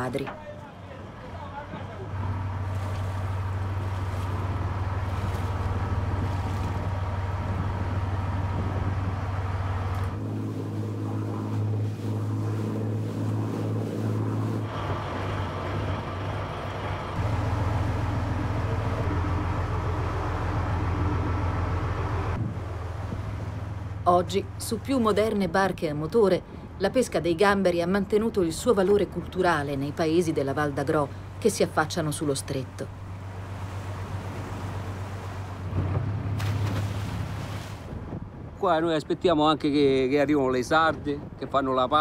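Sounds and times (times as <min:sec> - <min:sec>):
boat engine humming: 0:00.0 - 0:41.5
water rushing along hull: 0:00.0 - 0:42.0.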